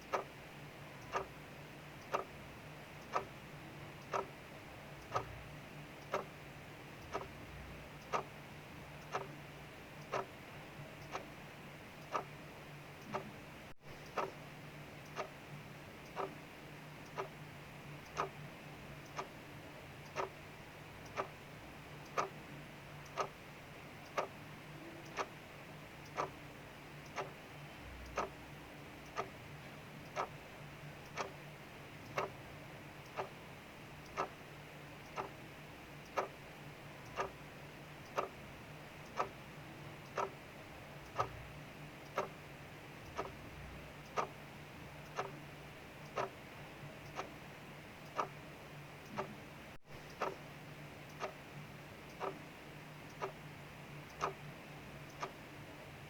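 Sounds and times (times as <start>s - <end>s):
clock ticking: 0.0s - 55.7s
soft hiss of rain: 0.0s - 56.0s.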